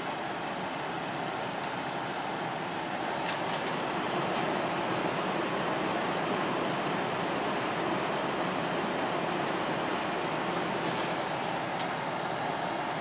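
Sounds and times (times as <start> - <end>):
air conditioner fan running: 0.0 - 13.0.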